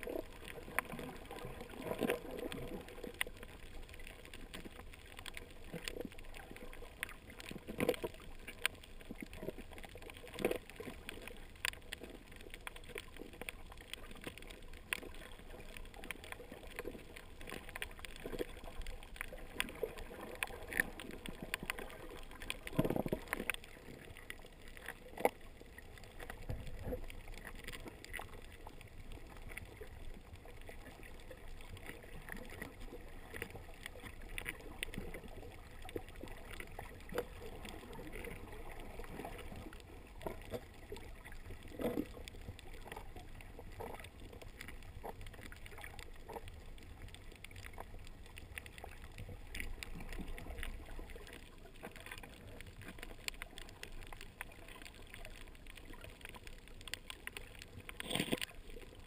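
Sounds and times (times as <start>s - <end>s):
faint clicks and crackles: 0.0s - 59.0s
low underwater rumble: 0.0s - 59.0s.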